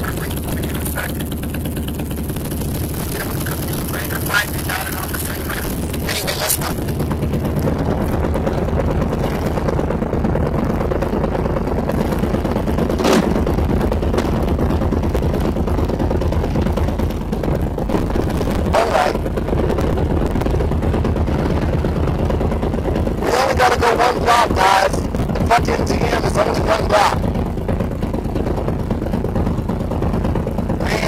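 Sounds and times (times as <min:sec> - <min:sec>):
motorcycle engine rumble: 0:00.0 - 0:31.0.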